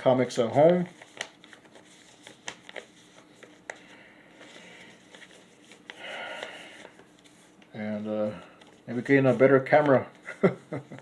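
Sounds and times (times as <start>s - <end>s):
paper rustling: 0.4s - 7.7s, 8.6s - 11.0s.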